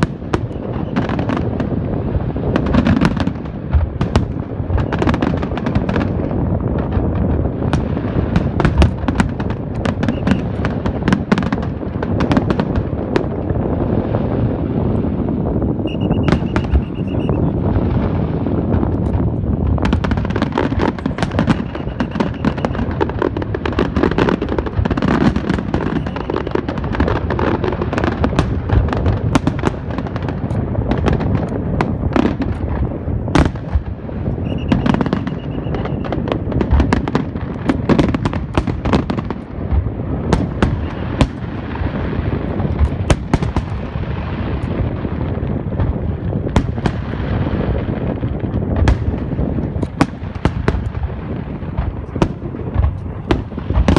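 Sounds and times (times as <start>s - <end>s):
fireworks cracks and bangs: 0.0s - 53.9s.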